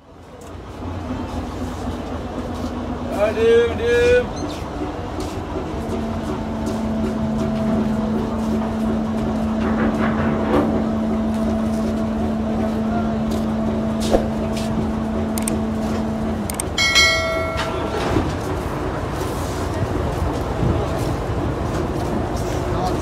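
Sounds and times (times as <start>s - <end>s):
engine rumble: 0.0s - 23.0s.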